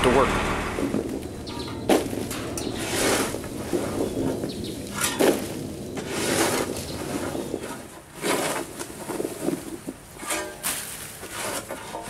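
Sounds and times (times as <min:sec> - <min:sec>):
dried corn cobs clattering: 0:00.0 - 0:12.0
shovel scooping corn: 0:00.8 - 0:12.0.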